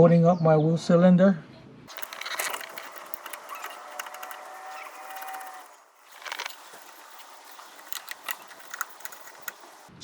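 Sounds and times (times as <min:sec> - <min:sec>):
ratchet clicking: 0:01.9 - 0:10.0
sharp metal clicks: 0:01.9 - 0:10.0.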